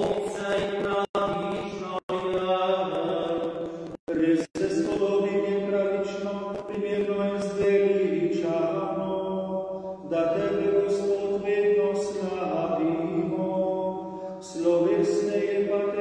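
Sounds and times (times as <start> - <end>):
slow liturgical chant: 0.0 - 16.0.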